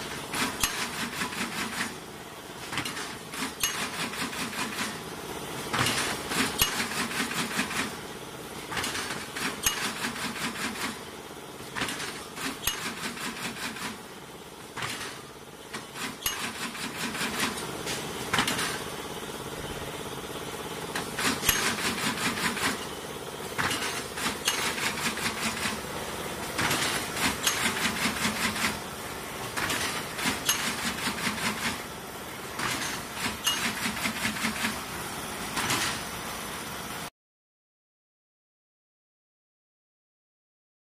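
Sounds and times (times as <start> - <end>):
steady motor hum: 0.0 - 37.1.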